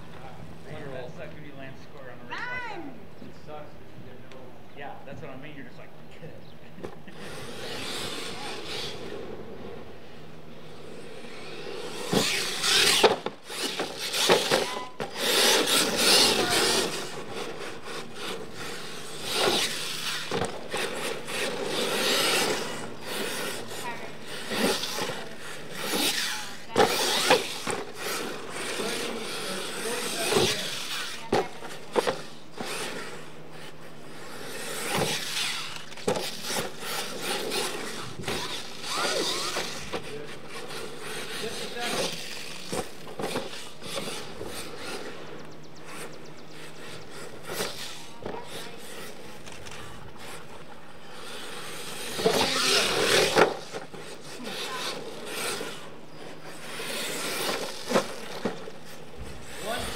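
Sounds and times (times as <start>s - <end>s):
toy truck motor whining: 7.0s - 59.9s.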